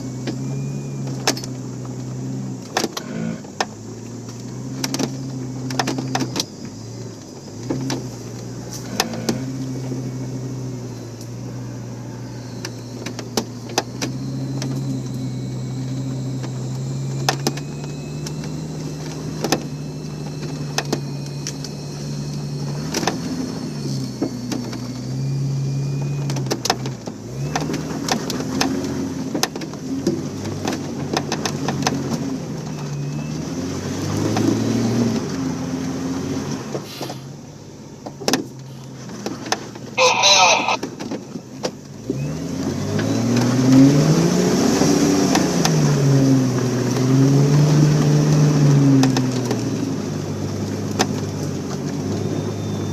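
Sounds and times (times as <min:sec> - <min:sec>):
off-road vehicle engine revving: 0:00.0 - 0:52.9.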